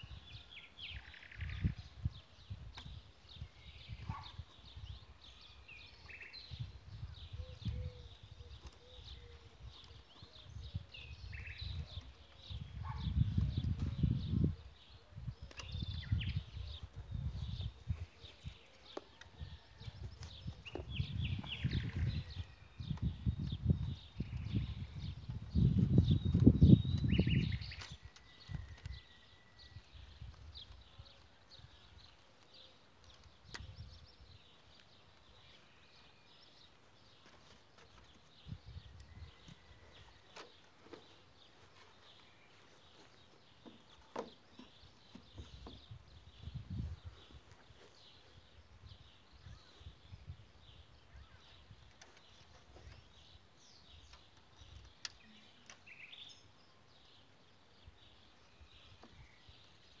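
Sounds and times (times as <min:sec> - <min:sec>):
faint small birds chirping: 0:00.0 - 1:00.0.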